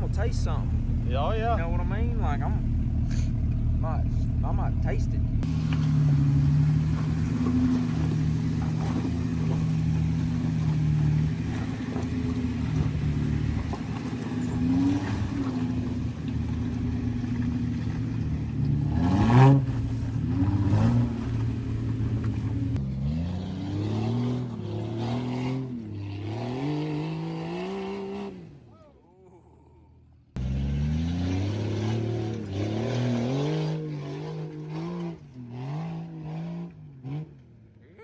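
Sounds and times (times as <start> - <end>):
car engine revving: 0.0 - 28.9, 30.3 - 37.6.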